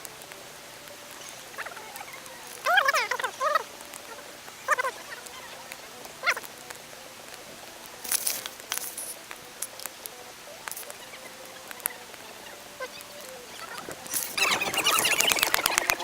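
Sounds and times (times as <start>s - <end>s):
campfire crackling: 0.0s - 16.0s
faint steady hiss: 0.0s - 16.0s.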